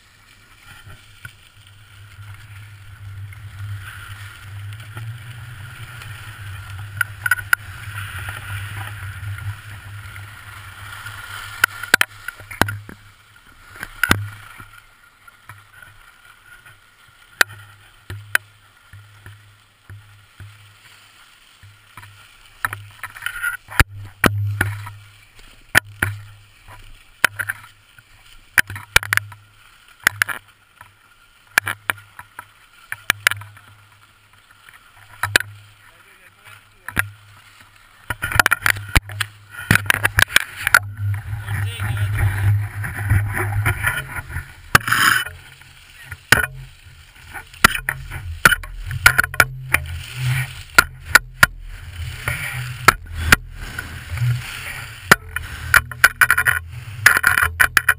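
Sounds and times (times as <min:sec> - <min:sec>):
clicks and knocks of skis and poles: 0:00.0 - 0:57.9
skis scraping over snow: 0:00.0 - 0:57.9.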